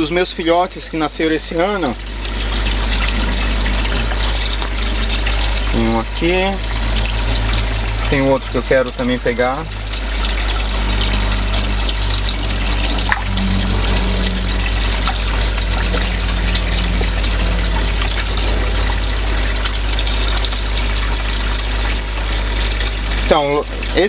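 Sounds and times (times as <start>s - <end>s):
aquarium air pump hum: 0.0s - 24.0s
water trickling and splashing: 0.0s - 24.0s.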